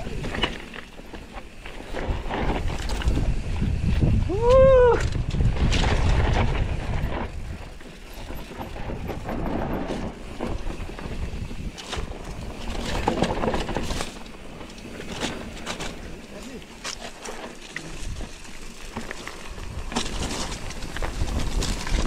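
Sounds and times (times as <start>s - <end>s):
mountain bike rattling on dirt trail: 0.0s - 22.0s.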